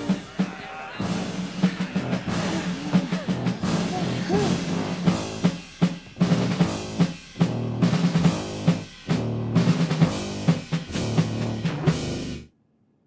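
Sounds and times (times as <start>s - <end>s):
marching band music: 0.0s - 12.5s
snare and bass drum beat: 0.0s - 12.5s.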